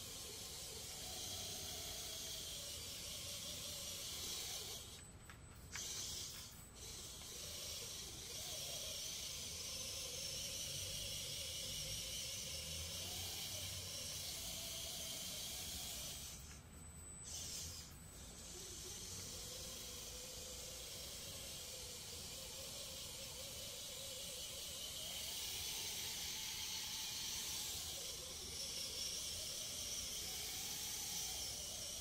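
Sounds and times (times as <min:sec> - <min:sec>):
faint wavering whine: 0:00.0 - 0:32.0
tiny electric motor whirring: 0:00.0 - 0:32.0.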